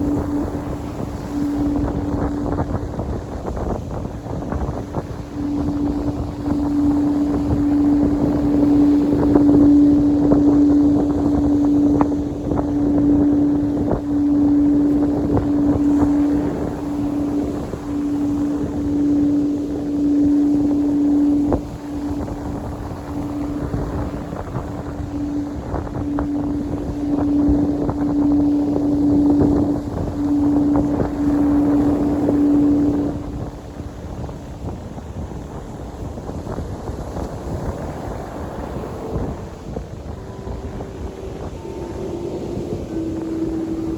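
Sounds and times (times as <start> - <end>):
steady pure tone: 0.0 - 43.9
wind noise on microphone: 0.0 - 43.9.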